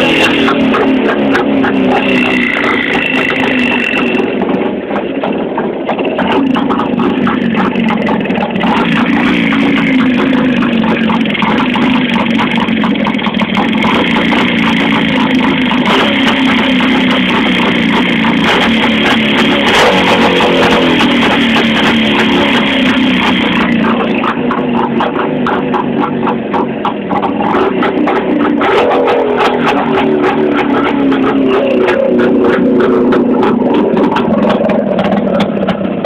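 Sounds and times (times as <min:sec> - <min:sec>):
fast ticking engine rattle: 0:00.0 - 0:36.0
motorcycle engine idling: 0:00.0 - 0:36.0.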